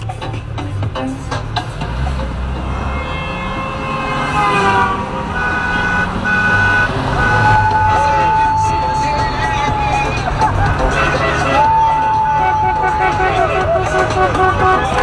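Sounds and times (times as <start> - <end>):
low rumble of traffic: 0.0 - 15.0
car horns honking: 0.8 - 15.0.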